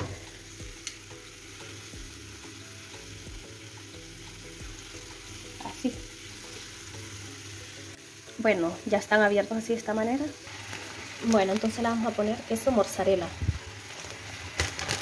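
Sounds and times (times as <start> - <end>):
plantains sizzling in oil: 0.0 - 15.0.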